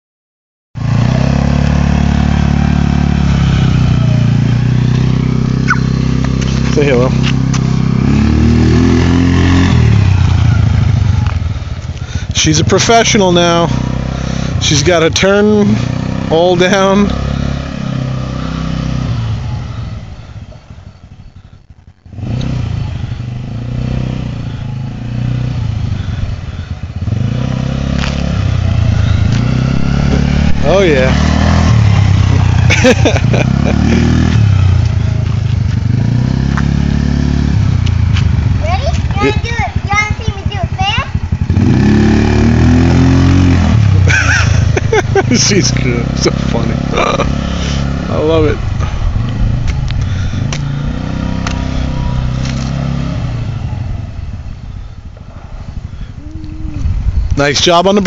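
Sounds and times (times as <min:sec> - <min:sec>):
quad engine running: 0:00.8 - 0:58.0.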